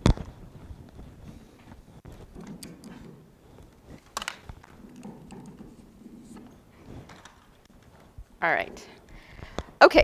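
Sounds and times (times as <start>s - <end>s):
microphone handling noise: 0.0s - 8.4s.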